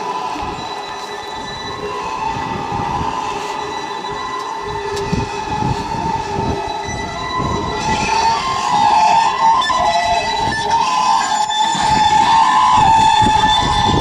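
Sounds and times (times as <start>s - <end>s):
drone of held tones: 0.0s - 14.0s.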